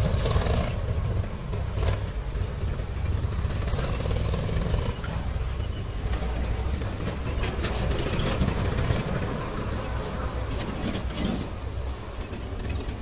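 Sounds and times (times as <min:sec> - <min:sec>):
tractor diesel engine running: 0:00.0 - 0:10.6.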